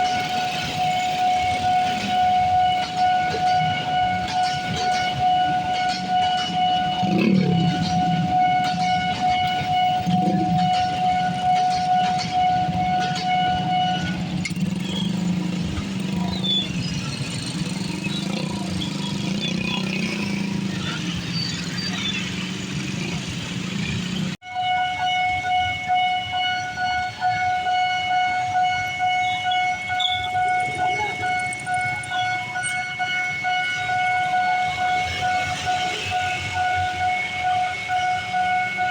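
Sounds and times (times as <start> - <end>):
passing train rumble: 0.0 - 38.9
railroad crossing alarm tone: 0.0 - 38.9.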